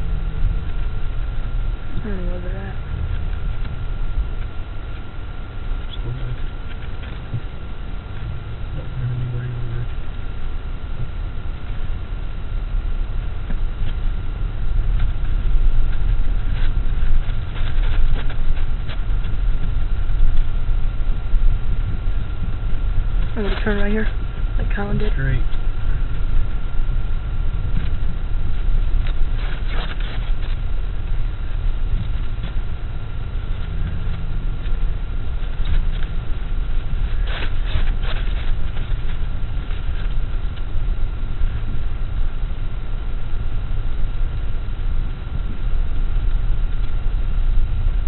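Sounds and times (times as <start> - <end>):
truck engine and road rumble: 0.0 - 48.0.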